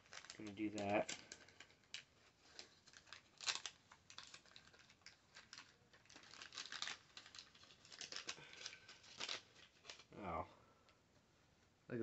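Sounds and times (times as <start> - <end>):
paper wrapper tearing and crinkling: 0.0 - 10.1.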